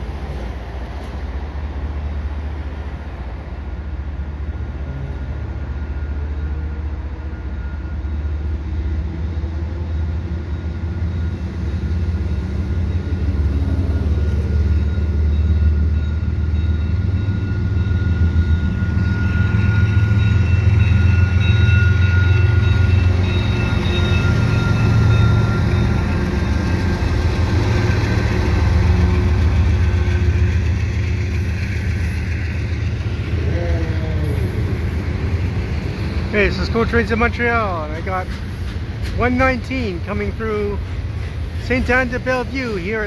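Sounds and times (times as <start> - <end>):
locomotive engine rumble: 0.0 - 43.0.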